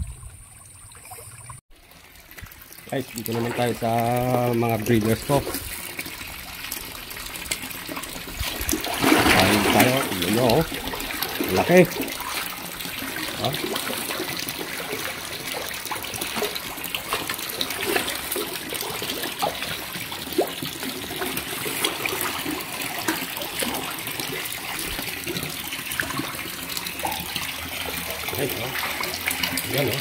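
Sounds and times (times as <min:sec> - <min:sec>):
water splashing and trickling: 0:00.0 - 0:30.0
fish splashing at water surface: 0:05.4 - 0:30.0.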